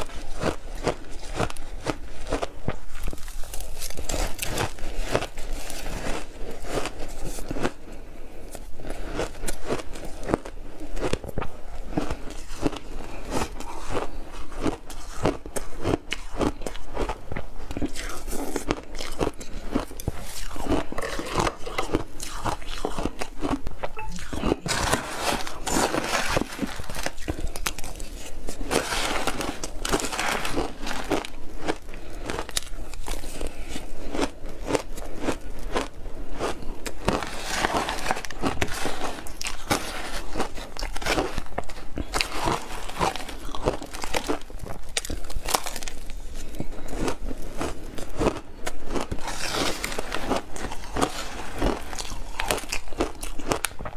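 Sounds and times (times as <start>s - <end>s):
person crunching ice: 0.0s - 53.9s.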